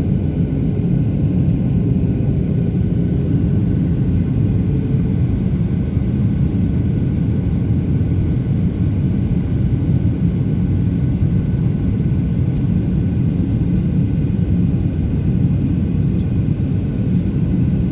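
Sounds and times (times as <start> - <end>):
aircraft rumble in flight: 0.0 - 17.9.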